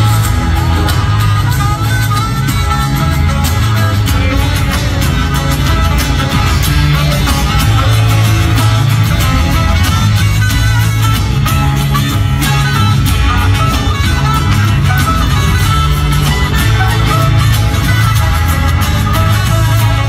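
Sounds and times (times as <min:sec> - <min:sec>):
rock band playing live: 0:00.0 - 0:20.0
saxophone solo: 0:00.0 - 0:20.0.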